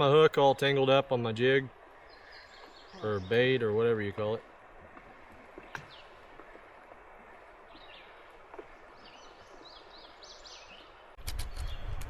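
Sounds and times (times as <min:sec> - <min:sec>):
outdoor background hiss: 0:00.0 - 0:12.0
songbird singing: 0:00.0 - 0:12.0.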